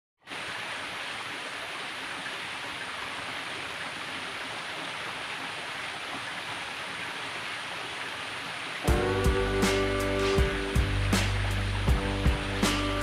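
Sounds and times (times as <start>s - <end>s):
stream water rushing: 0.2s - 13.0s.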